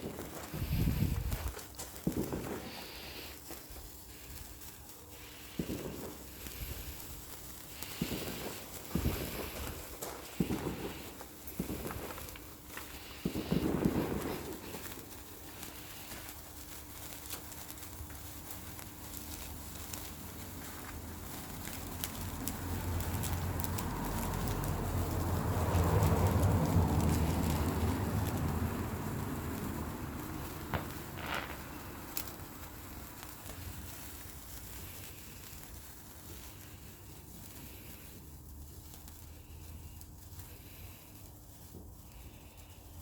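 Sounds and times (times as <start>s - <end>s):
sparkler crackling: 0.0s - 43.0s.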